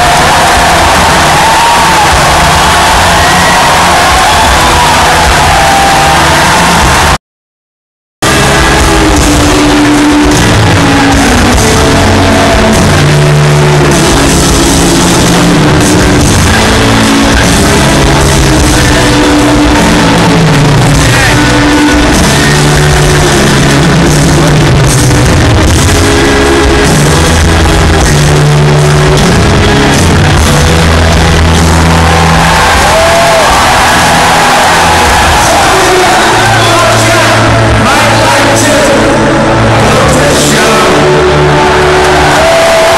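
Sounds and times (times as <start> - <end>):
live rock band playing: 0.0 - 7.2, 8.2 - 42.9.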